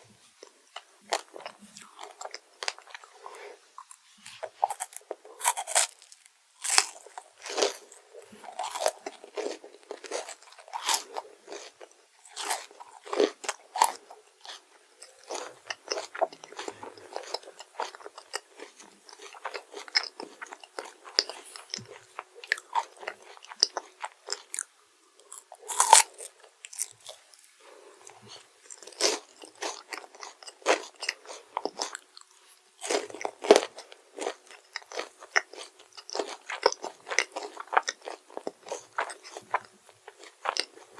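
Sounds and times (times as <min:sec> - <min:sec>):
crunchy food chewing: 0:00.4 - 0:40.9.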